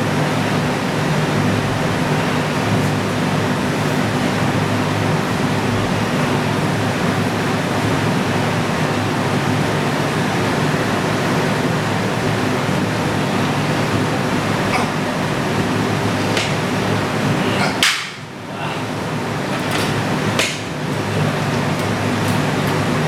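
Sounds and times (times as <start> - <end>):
electric fan blowing: 0.0 - 23.0.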